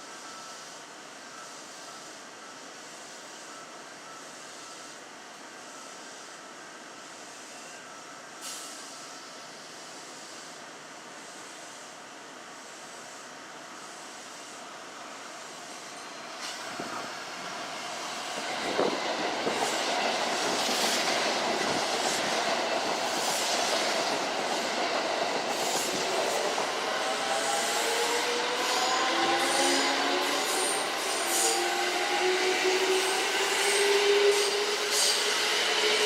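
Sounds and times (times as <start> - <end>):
electric train rumble and wheel noise: 0.0 - 36.0.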